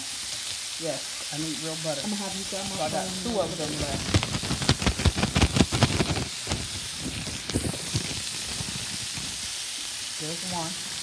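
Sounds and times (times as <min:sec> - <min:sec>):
shrimp frying in oil: 0:00.0 - 0:11.0.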